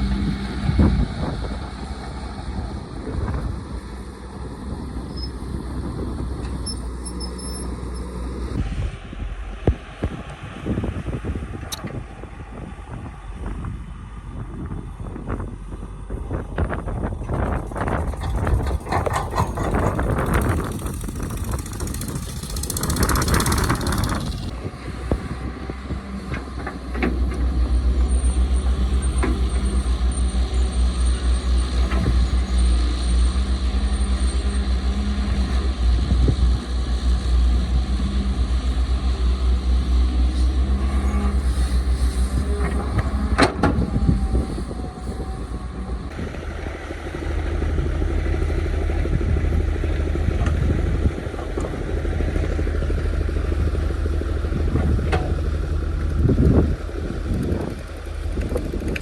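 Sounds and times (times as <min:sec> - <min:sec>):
diesel engine rumbling: 0:00.0 - 0:59.0.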